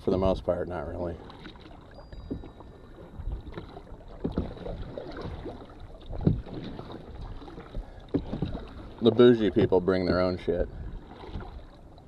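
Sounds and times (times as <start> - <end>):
paddle strokes in water: 0.0 - 12.0.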